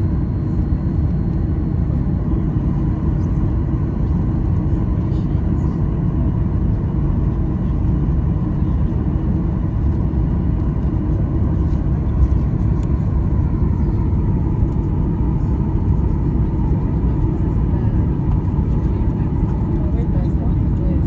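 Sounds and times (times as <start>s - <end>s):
airplane cabin low rumble: 0.0s - 21.0s.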